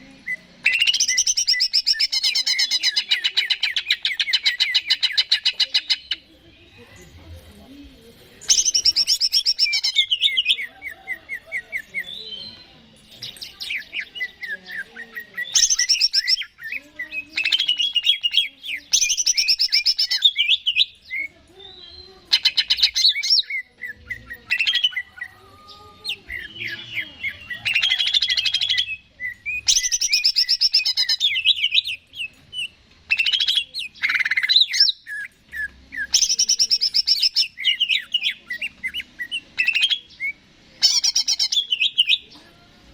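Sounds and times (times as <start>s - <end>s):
bird singing trills and whistles: 0.0s - 6.7s, 8.5s - 42.4s.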